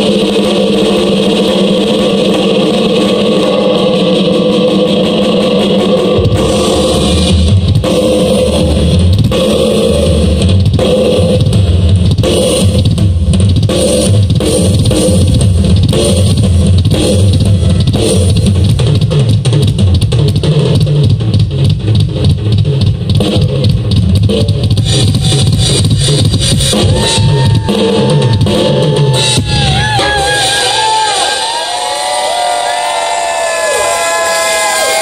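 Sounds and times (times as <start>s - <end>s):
bass: 0.0s - 35.0s
drum kit driving beat: 0.0s - 35.0s.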